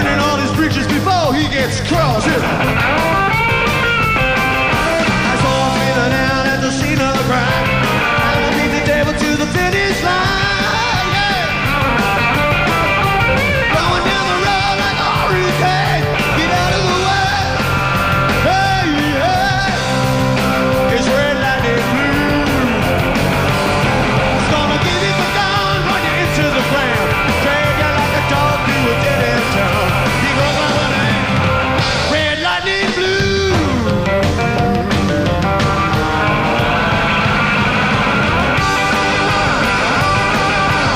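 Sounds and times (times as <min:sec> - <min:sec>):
electric guitar lead: 0:00.0 - 0:40.9
rock band playing: 0:00.0 - 0:40.9.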